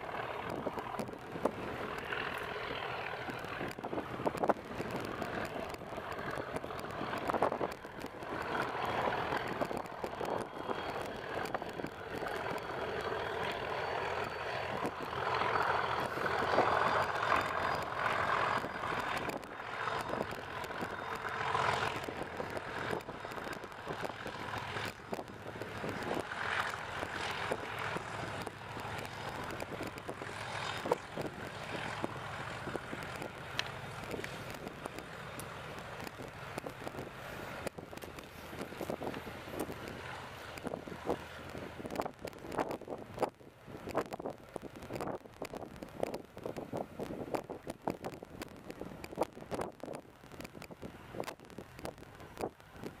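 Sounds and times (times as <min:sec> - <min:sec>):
diesel locomotives working under load: 0:00.0 - 0:53.0
wind on microphone: 0:00.0 - 0:53.0.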